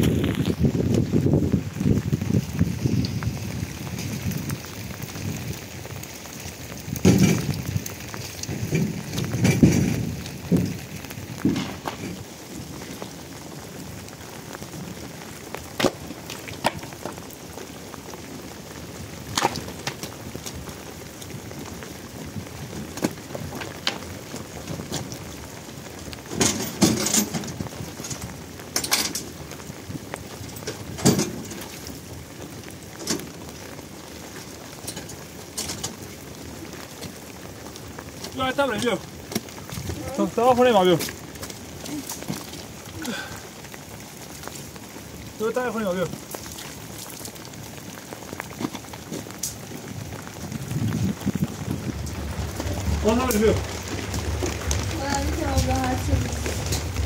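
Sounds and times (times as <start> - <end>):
rain falling: 0.0 - 57.0
raindrops tapping: 0.0 - 57.0.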